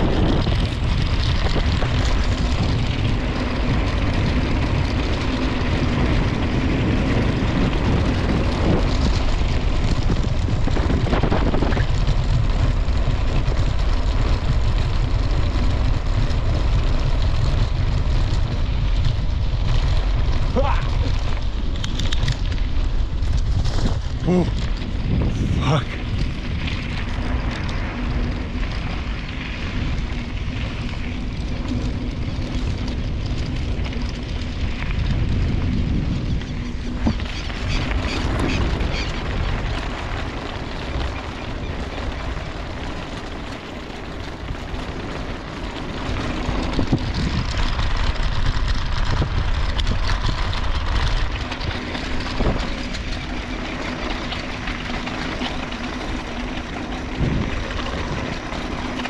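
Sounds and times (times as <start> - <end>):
bicycle road noise: 0.0 - 59.0
wind buffeting the microphone: 0.0 - 59.0.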